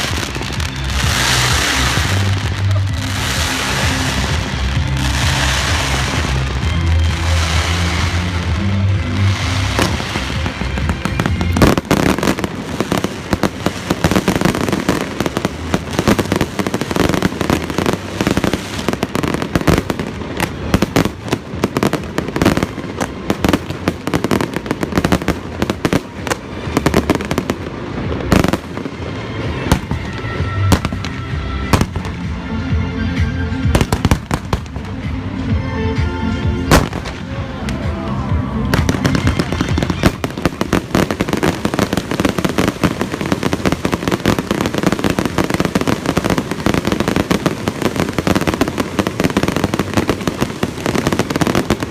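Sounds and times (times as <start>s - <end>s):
fireworks bangs and crackles: 0.0s - 51.9s
music playing: 0.0s - 51.9s.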